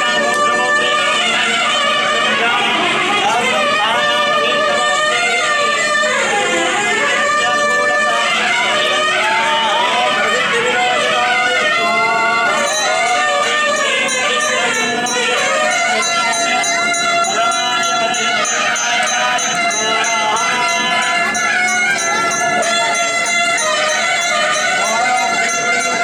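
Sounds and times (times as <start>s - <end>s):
devotional music: 0.0s - 26.0s.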